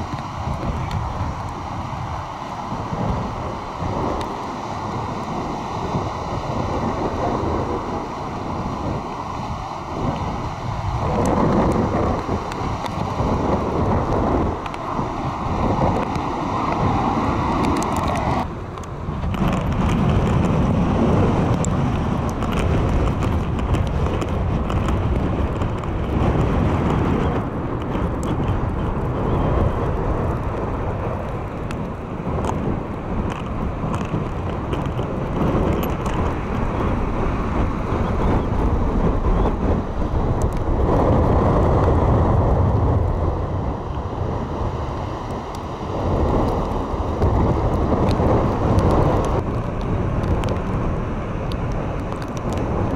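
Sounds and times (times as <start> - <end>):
ocean surf breaking: 0.0 - 52.9
wind buffeting microphone: 0.0 - 52.9.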